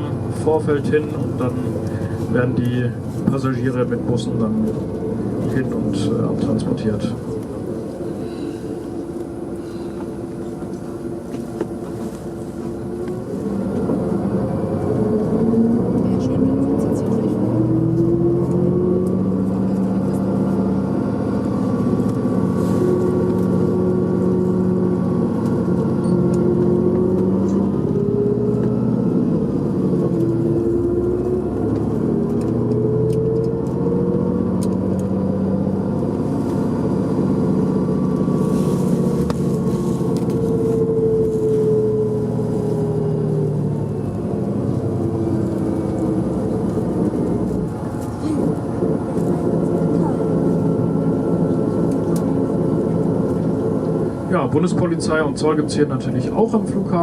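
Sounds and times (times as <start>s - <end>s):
vehicle engine from inside cabin: 0.0s - 57.0s.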